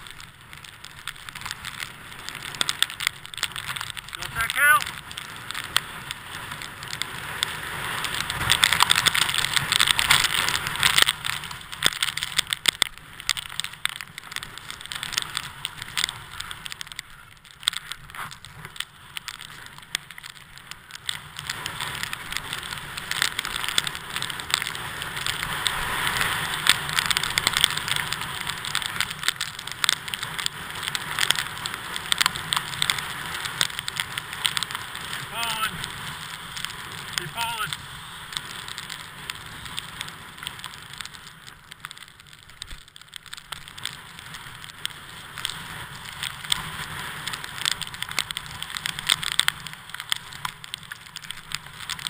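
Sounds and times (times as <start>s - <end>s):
skis scraping over snow: 0.0s - 52.0s.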